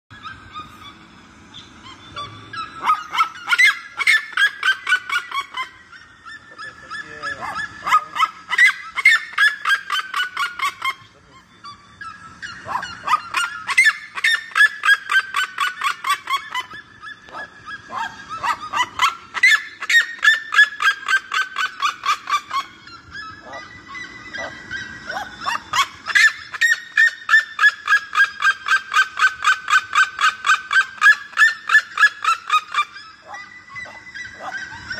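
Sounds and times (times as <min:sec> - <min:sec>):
bird yelping calls: 0:00.1 - 0:34.9.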